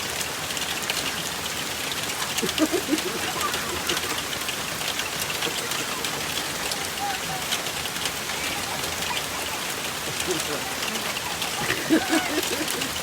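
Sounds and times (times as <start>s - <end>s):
rain hissing: 0.0s - 13.0s
raindrops splashing close by: 0.0s - 13.0s.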